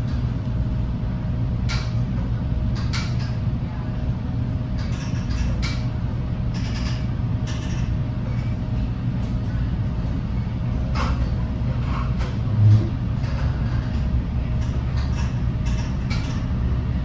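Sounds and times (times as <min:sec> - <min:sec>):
train car running rumble: 0:00.0 - 0:17.0.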